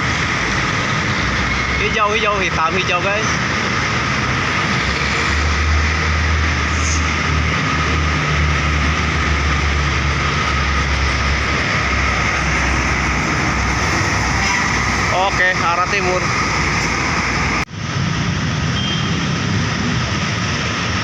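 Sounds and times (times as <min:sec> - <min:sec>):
heavy vehicle engine rumbling: 0:00.0 - 0:21.0
road and tyre noise: 0:00.0 - 0:21.0.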